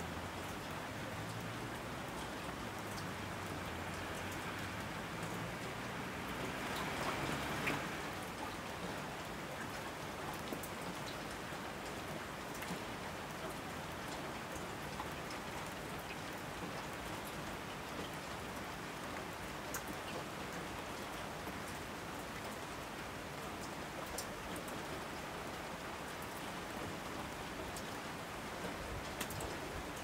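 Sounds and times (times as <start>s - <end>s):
raindrops ticking on surfaces: 0.0s - 30.0s
steady rain hiss: 0.0s - 30.0s.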